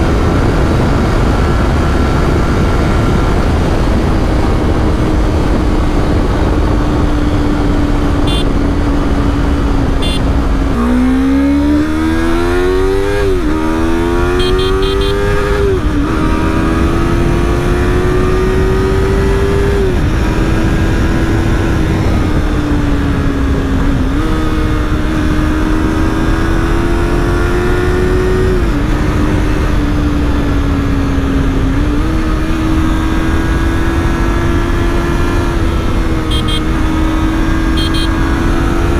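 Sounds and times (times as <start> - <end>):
motorcycle engine accelerating through gears: 0.0 - 38.9.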